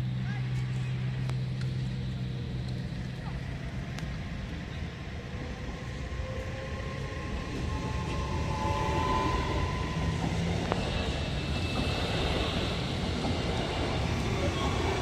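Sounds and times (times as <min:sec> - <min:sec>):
train wheels rumbling on rails: 0:00.0 - 0:15.0
train whine: 0:00.0 - 0:15.0.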